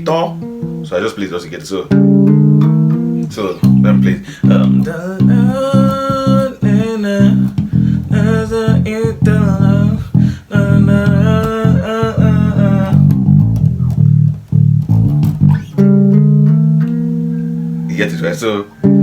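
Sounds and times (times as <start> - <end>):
bass guitar plucked notes: 0.0 - 0.9, 1.9 - 19.0
higher melodic part: 1.9 - 19.0.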